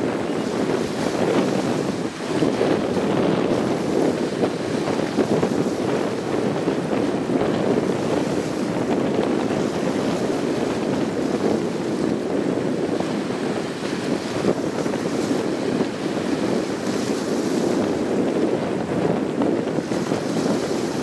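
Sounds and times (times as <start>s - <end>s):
choppy water: 0.0s - 21.0s
wind buffeting microphone: 0.0s - 21.0s.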